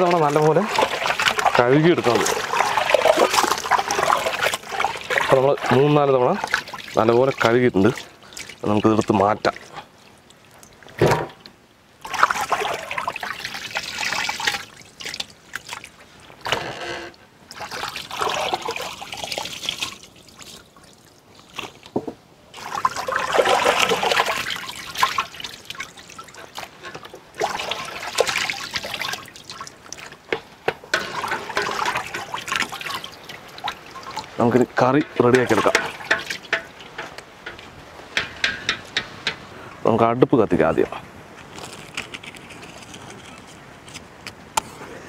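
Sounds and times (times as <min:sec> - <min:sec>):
water splashing in metal basin: 0:00.0 - 0:16.9, 0:17.5 - 0:21.2, 0:22.5 - 0:39.6.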